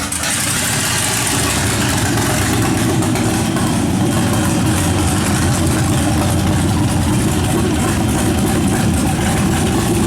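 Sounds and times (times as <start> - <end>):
engine running at fast idle: 0.0 - 10.0.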